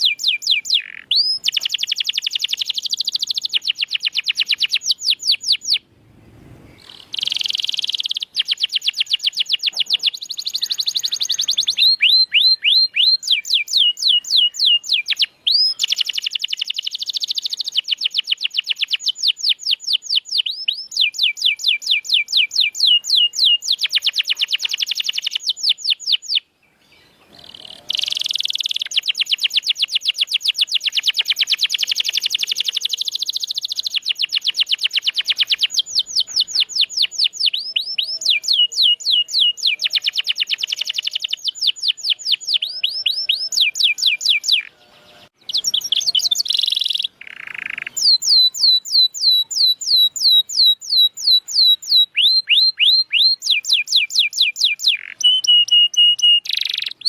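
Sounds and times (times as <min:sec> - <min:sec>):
canary singing trills: 0:00.0 - 0:05.9, 0:06.6 - 0:57.0.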